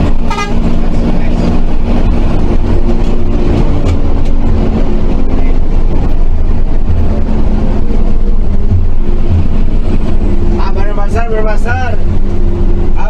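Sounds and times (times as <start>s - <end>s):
bus diesel engine drone: 0.0s - 13.0s
road rumble: 0.0s - 13.0s.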